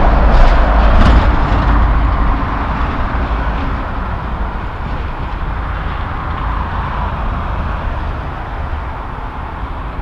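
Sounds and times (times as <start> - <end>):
truck passing by: 0.0 - 10.0.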